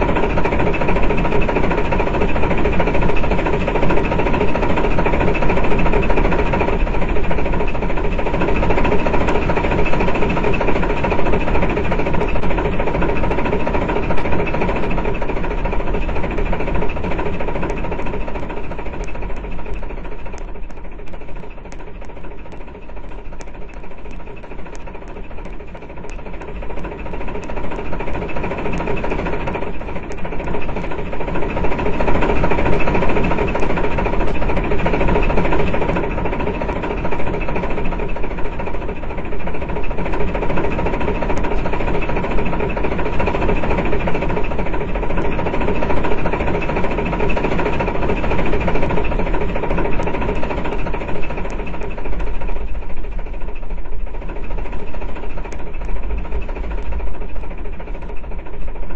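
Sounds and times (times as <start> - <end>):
train clattering: 0.0 - 58.9.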